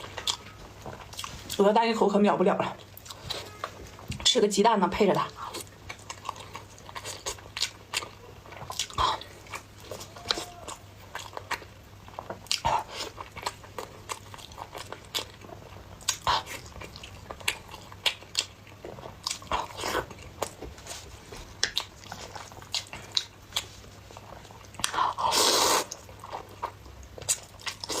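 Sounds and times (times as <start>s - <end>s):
person chewing noodles: 0.0s - 1.6s, 5.4s - 28.0s
faint low hum: 0.0s - 28.0s.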